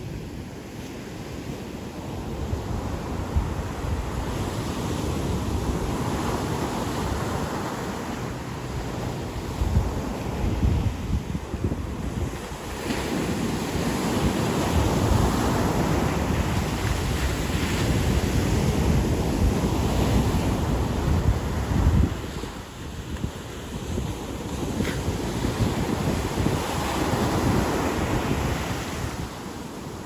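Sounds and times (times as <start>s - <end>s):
waves breaking on beach: 0.0s - 30.0s
wind buffeting microphone: 0.0s - 30.0s.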